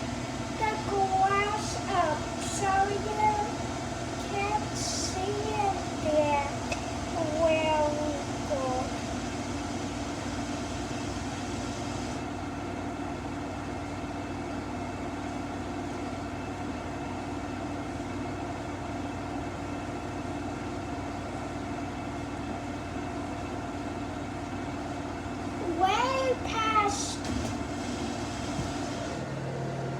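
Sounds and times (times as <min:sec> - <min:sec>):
washing machine spinning: 0:00.0 - 0:29.9.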